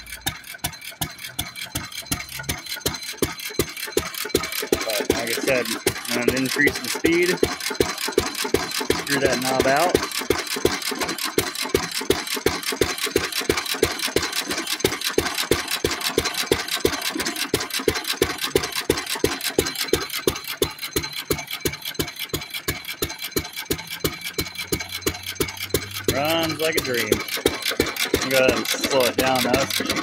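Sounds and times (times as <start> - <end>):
single-cylinder engine chugging: 0.0 - 30.0.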